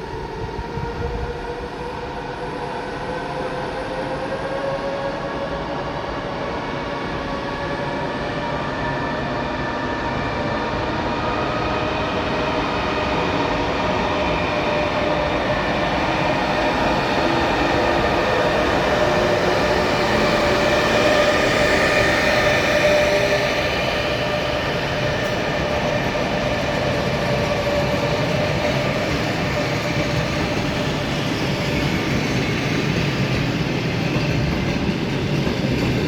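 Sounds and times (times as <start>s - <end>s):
rail and wheel rumble: 0.0s - 36.0s.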